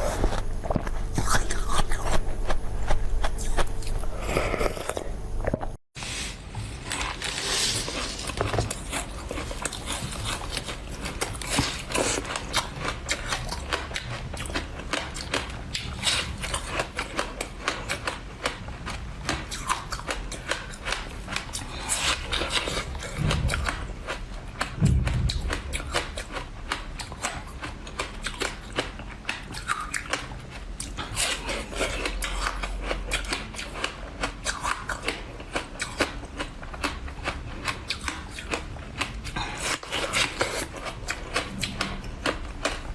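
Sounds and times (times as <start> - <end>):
person chewing and biting food: 0.0 - 42.9.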